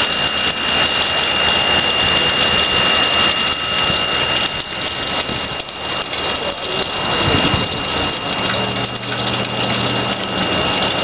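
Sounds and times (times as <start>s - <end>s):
high-pitched whine: 0.0s - 11.0s
pond water rushing and splashing: 0.0s - 11.0s.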